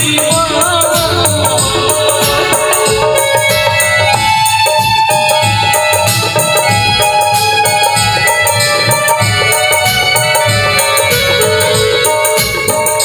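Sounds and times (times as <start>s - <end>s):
dholak drum beat: 0.0s - 13.0s
harmonium and keyboard melody: 0.0s - 13.0s.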